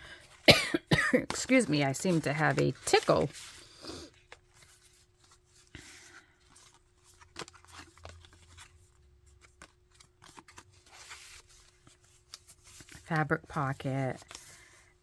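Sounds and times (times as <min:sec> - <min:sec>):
paper pages rustling and clicking: 0:01.1 - 0:14.9.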